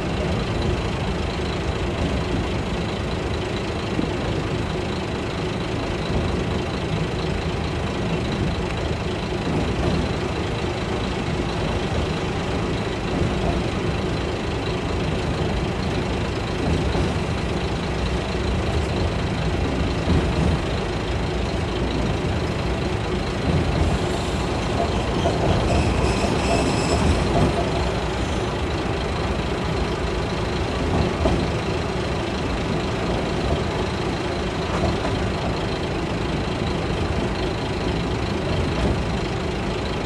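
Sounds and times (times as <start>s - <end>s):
railcar engine rumble: 0.0s - 40.0s.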